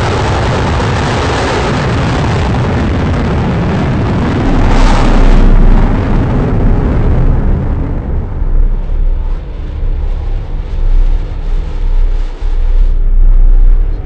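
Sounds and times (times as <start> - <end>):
loud jet engine roar: 0.0 - 14.0.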